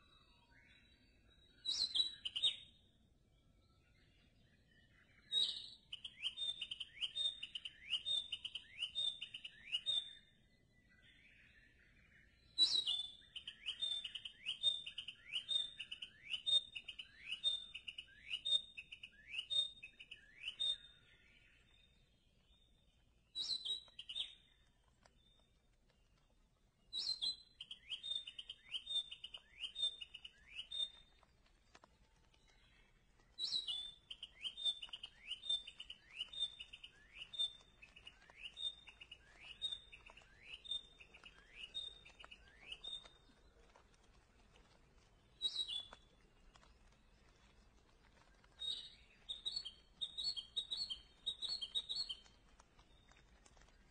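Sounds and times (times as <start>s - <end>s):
songbird calling: 0.0s - 2.9s, 3.6s - 25.4s, 26.9s - 31.8s, 32.4s - 53.9s.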